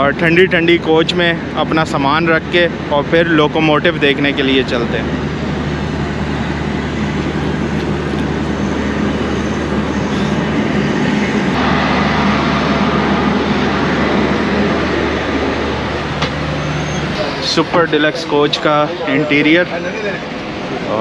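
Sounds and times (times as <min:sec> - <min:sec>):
rushing noise: 0:00.0 - 0:21.0
train engine humming: 0:00.0 - 0:21.0.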